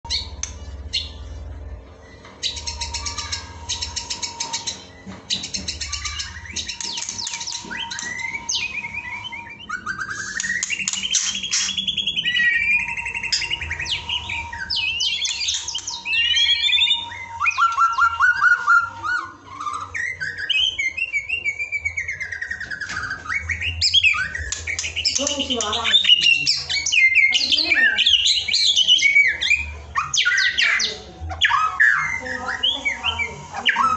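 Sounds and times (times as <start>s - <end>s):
bird singing trills and whistles: 0.1s - 1.4s, 2.0s - 33.9s.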